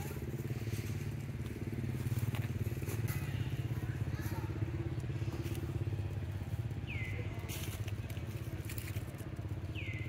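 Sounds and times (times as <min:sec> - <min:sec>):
low pulsing engine rumble: 0:00.0 - 0:10.0.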